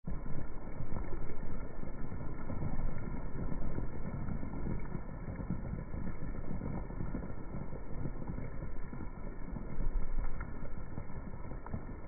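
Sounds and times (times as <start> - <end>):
slowed down rain: 0.0 - 12.0.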